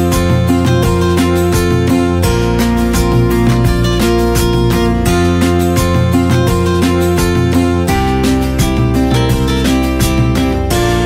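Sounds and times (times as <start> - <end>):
background guitar music: 0.0 - 11.0.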